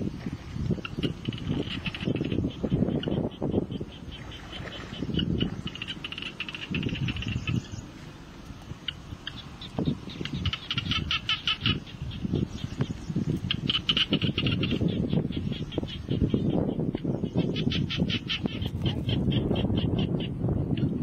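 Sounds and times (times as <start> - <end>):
small animals chattering chirps: 0.8 - 7.9, 8.8 - 21.0.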